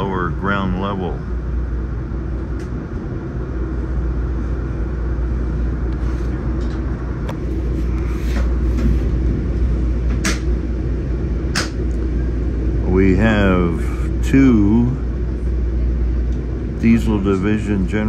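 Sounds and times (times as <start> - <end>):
train rumble inside carriage: 0.0 - 18.0.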